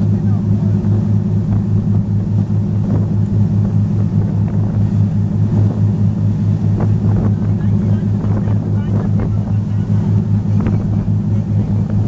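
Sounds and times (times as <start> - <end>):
boat engines droning: 0.0 - 12.0
water rushing along hull: 0.0 - 12.0.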